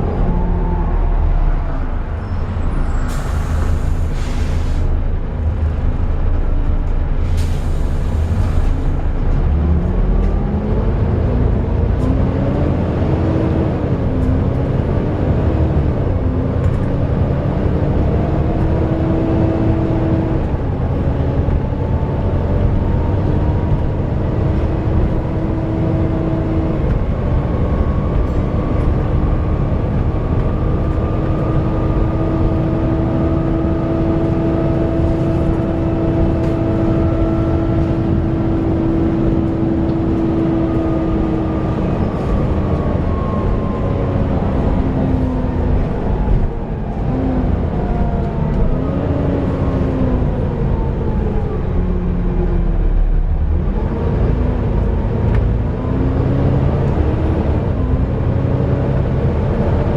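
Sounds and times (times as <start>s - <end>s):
bus engine rumble: 0.0s - 59.9s
bus cooling fan whine: 4.4s - 59.9s.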